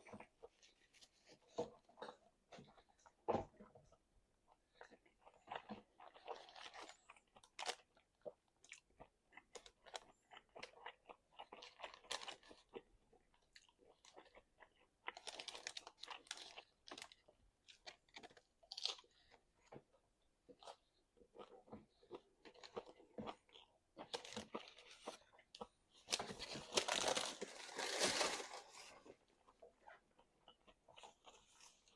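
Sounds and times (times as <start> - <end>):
person chewing crunchy food: 4.5 - 19.7, 20.4 - 31.9.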